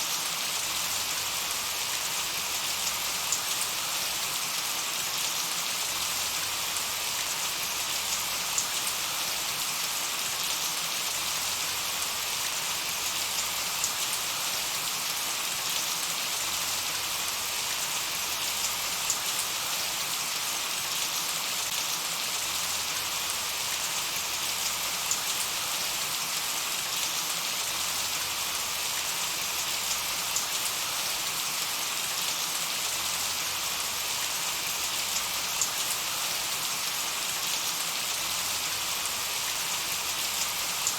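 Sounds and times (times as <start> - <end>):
light rain hiss: 0.0 - 40.9.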